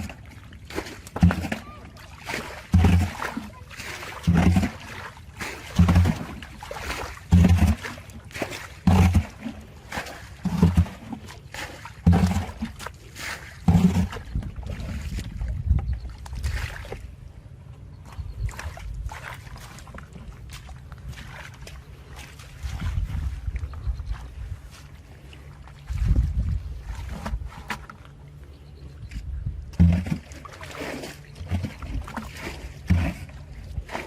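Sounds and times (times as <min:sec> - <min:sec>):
heavy low water splashes: 0:00.0 - 0:34.0
low rumble of moving water: 0:00.0 - 0:34.0.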